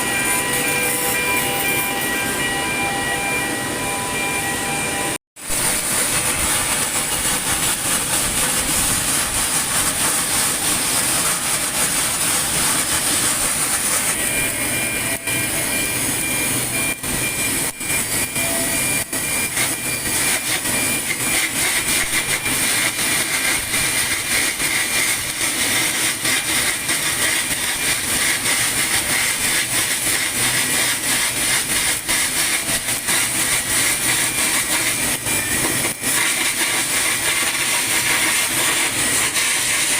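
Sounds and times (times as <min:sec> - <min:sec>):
thin high whine: 0:00.0 - 0:39.9
welding arc hiss and crackle: 0:05.4 - 0:39.9.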